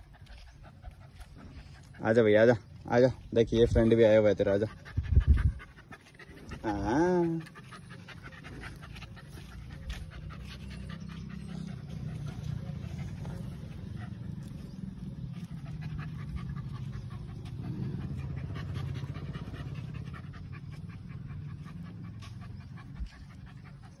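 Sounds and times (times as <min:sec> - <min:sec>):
puppy panting: 0:00.0 - 0:24.0.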